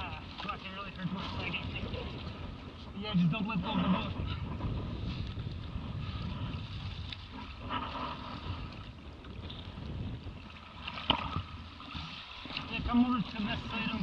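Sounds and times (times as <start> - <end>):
water splashing against hull: 0.0 - 14.0
wind buffeting microphone: 0.0 - 14.0.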